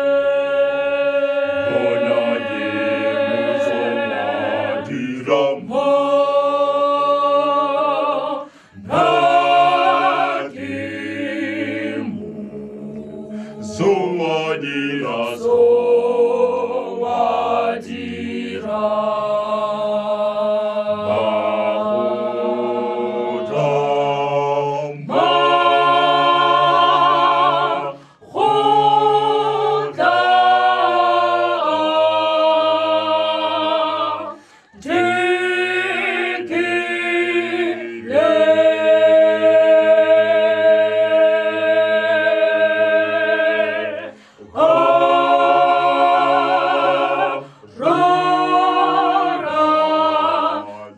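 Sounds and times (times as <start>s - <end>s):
vocal group singing in harmony: 0.0s - 50.9s.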